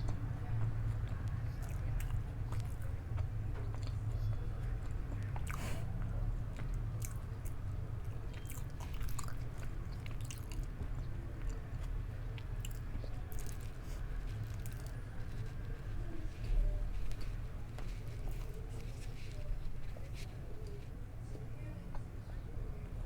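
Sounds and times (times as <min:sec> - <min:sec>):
food crunching: 0:00.0 - 0:05.8, 0:06.4 - 0:21.0
chewing and biting food: 0:00.0 - 0:21.0.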